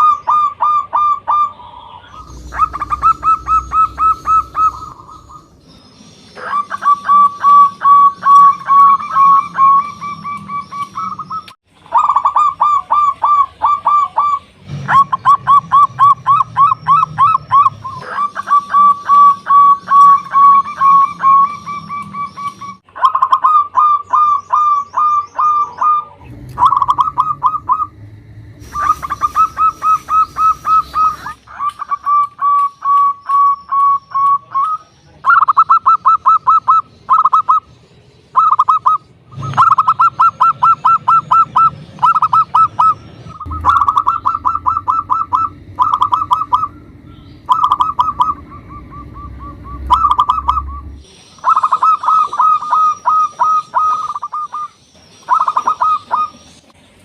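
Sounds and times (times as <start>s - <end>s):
dove cooing: 0.0s - 5.6s, 6.3s - 37.7s, 38.4s - 56.4s
faint high bird chirps: 0.0s - 28.0s, 28.6s - 56.7s.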